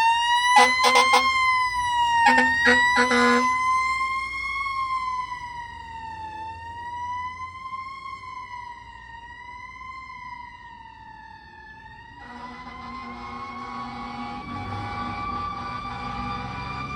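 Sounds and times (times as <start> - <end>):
fire engine siren wailing: 0.0 - 16.9.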